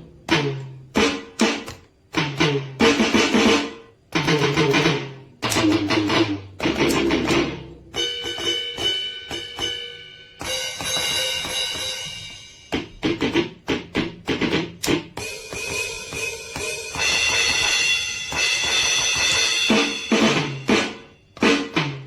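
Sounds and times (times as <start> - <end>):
drum kit music: 0.0 - 22.0.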